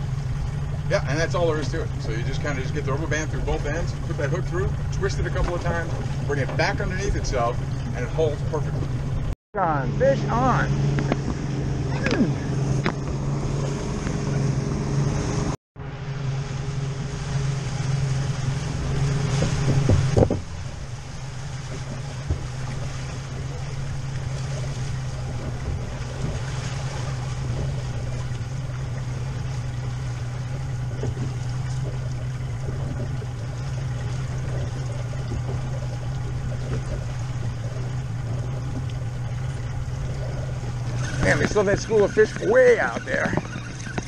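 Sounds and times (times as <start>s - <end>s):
outboard motor humming: 0.0s - 44.0s
water rushing along hull: 0.0s - 44.0s
wind: 0.0s - 44.0s.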